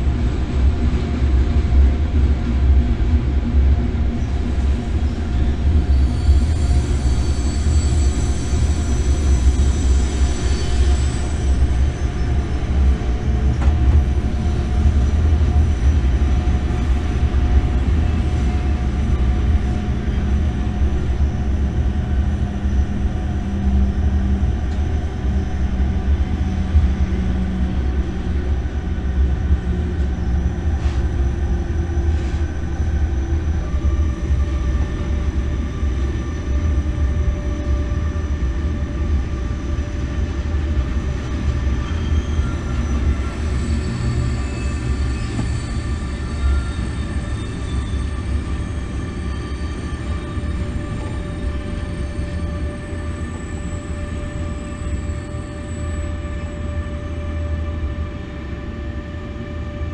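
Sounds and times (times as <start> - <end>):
low rumble of moving train: 0.0 - 59.9.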